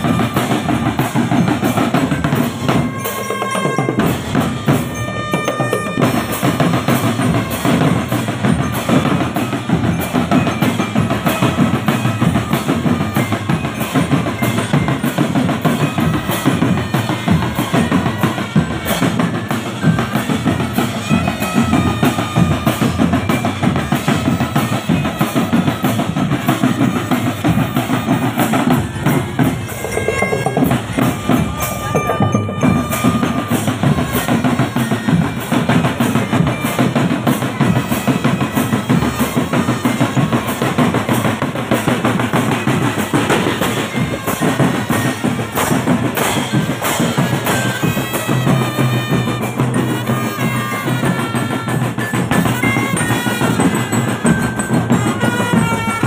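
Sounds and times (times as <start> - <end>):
held melody notes: 0.0 - 56.0
snare drum beating: 0.0 - 56.0.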